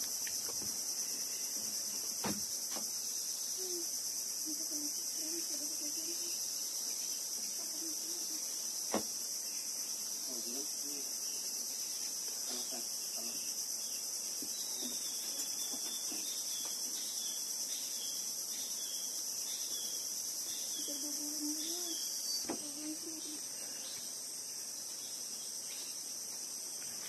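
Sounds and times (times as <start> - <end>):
insects shrilling: 0.0 - 27.0.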